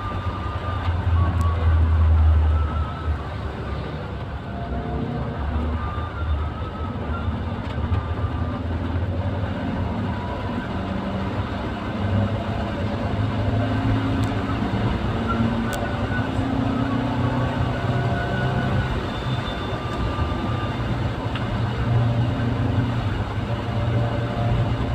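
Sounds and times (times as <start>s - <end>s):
road noise: 0.0s - 24.9s
vehicle engine hum: 0.0s - 24.9s.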